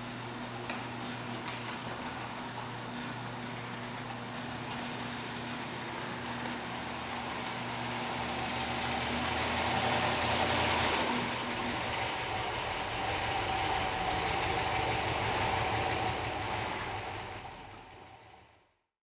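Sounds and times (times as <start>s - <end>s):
garage door opener humming: 0.0s - 18.6s
car engine rolling at low speed: 0.6s - 18.6s.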